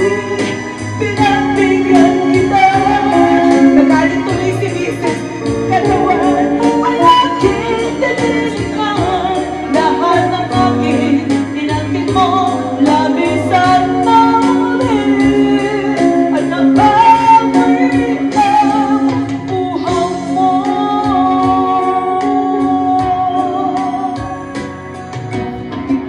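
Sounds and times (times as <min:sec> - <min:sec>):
band with steady beat and bass: 0:00.0 - 0:26.0
electric guitar: 0:00.0 - 0:26.0
woman singing pop ballad: 0:00.0 - 0:26.0.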